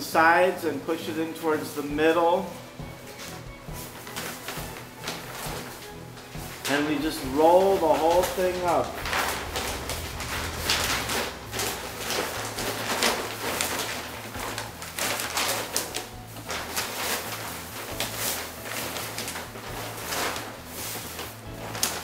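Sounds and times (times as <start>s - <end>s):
paper and plastic crinkling: 2.3s - 22.0s.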